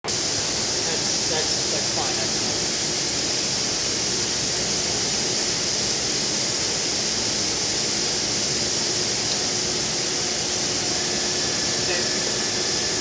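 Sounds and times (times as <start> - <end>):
machine hiss: 0.0 - 13.0.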